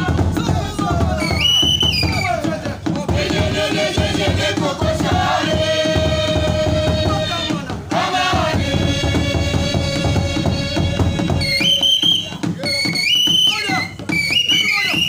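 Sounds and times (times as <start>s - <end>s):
drumming: 0.0s - 15.0s
voices chanting: 0.0s - 15.0s.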